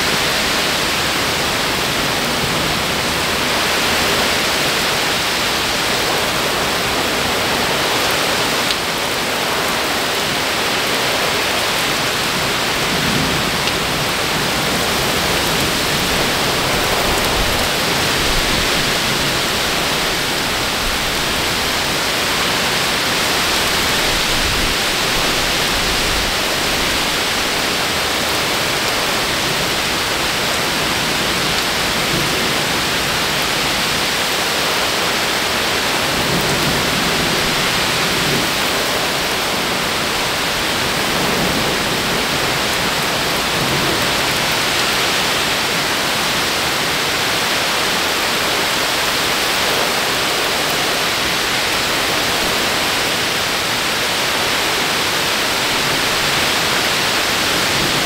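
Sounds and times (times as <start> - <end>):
heavy rain downpour: 0.0 - 58.0.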